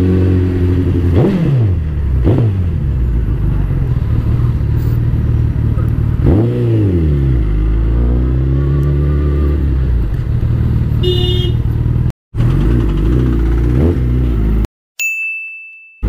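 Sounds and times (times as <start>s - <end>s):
motorcycle engine running: 0.0s - 14.7s
motorcycle throttle blips and revs: 0.0s - 14.7s.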